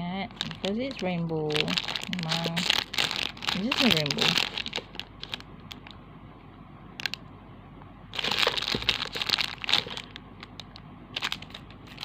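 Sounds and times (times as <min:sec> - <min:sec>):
plastic packaging crinkling: 0:00.3 - 0:06.0, 0:07.0 - 0:07.2, 0:08.2 - 0:12.0.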